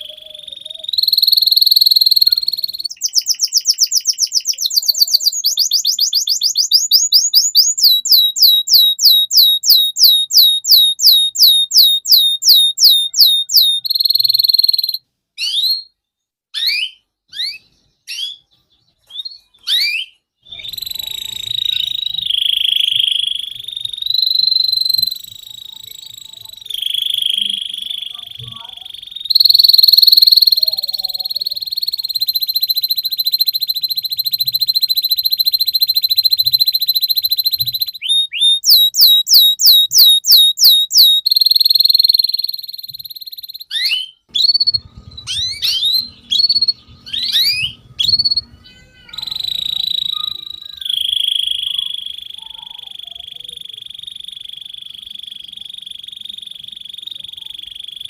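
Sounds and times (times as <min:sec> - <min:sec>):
canary singing trills: 0:00.0 - 0:16.0, 0:16.6 - 0:58.0.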